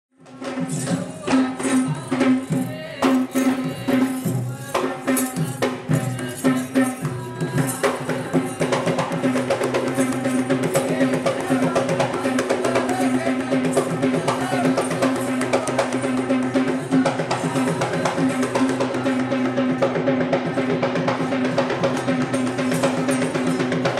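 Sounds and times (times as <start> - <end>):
drums beaten in fast rhythm: 0.1 - 23.9.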